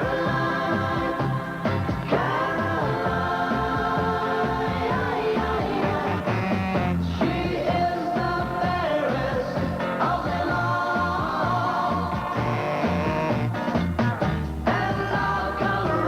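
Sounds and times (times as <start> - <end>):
rock and roll record playing: 0.0 - 16.0.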